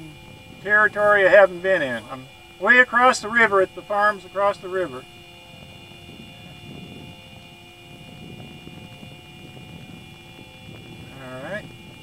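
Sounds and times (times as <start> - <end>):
faint high whine: 0.0 - 12.0
wind rumble on microphone: 0.0 - 12.0.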